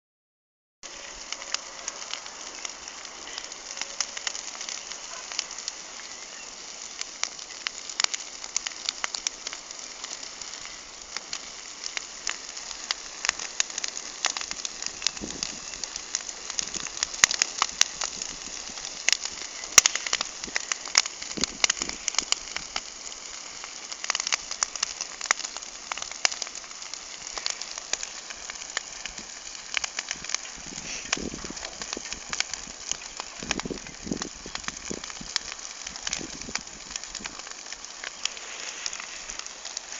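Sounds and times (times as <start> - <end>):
campfire crackling: 0.8 - 39.9
steady hiss: 0.9 - 39.9.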